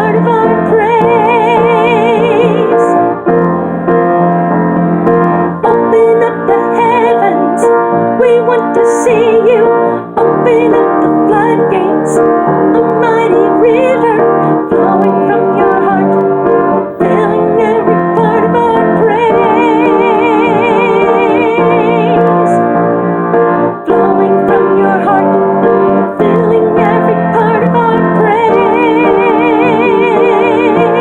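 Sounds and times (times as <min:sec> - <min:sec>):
person singing with vibrato: 0:00.0 - 0:03.6, 0:05.4 - 0:31.0
piano and keyboard: 0:00.0 - 0:31.0.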